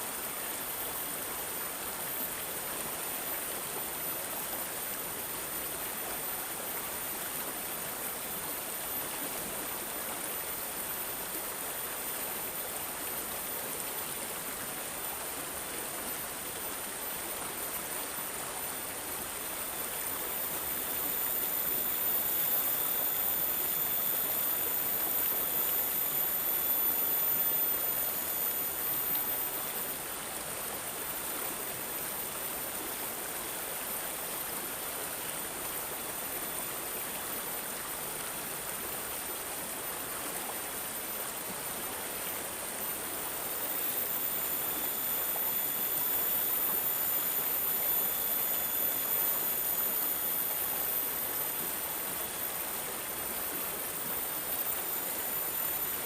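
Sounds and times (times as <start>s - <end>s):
water babbling and gurgling: 0.0s - 56.0s.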